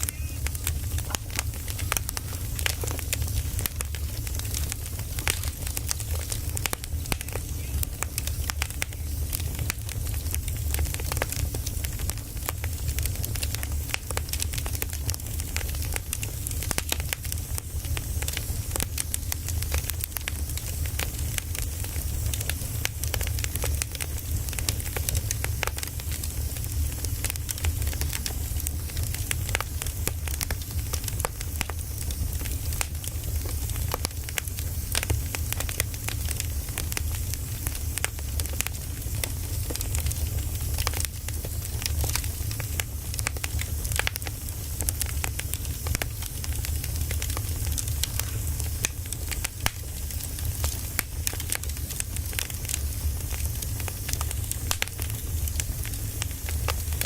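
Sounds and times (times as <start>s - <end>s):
firewood crackling and popping: 0.0s - 57.0s
flames rumbling: 0.0s - 57.0s.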